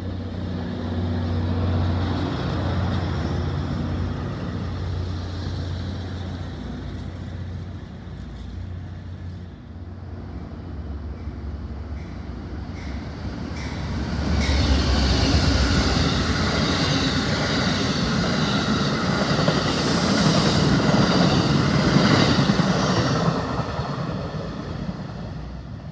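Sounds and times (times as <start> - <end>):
passenger train passing: 0.0 - 25.9.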